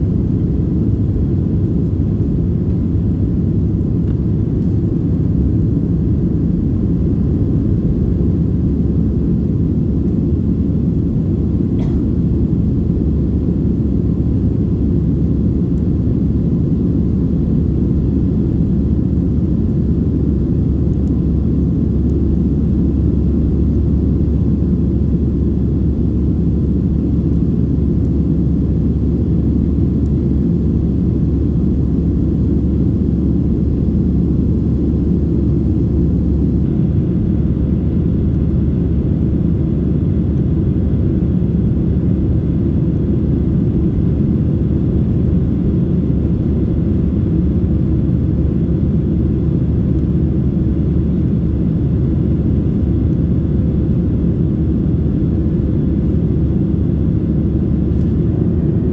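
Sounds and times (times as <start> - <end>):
airplane cabin rumble: 0.0 - 58.9.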